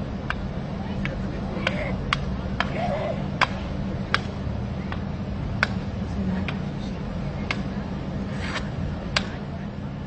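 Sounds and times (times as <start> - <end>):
low outdoor hum: 0.0 - 10.0.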